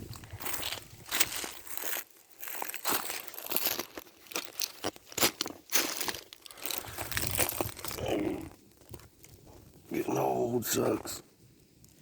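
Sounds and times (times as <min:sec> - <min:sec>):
footsteps crunching on dry ground: 0:00.0 - 0:10.0.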